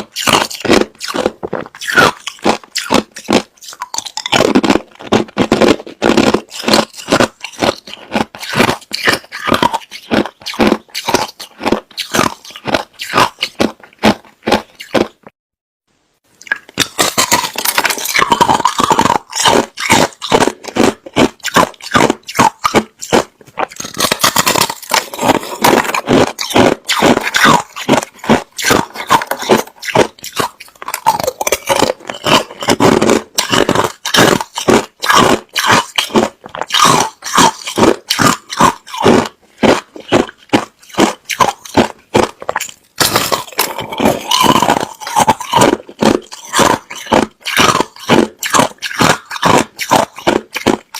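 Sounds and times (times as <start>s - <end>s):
person crunching ice: 0.0s - 15.3s, 16.5s - 50.9s.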